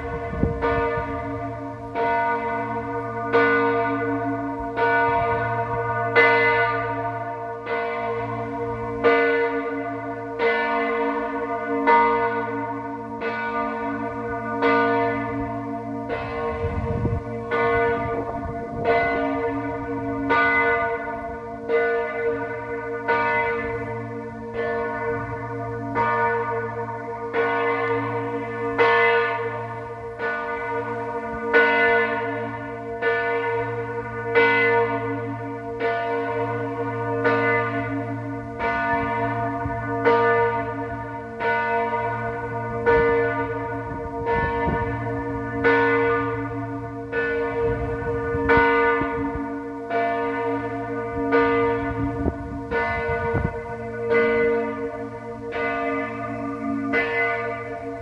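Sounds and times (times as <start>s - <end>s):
large church bell ringing: 0.0s - 58.0s.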